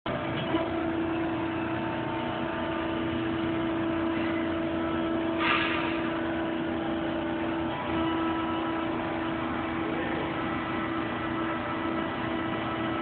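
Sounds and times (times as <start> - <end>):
hydraulic pump humming: 0.1 - 13.0.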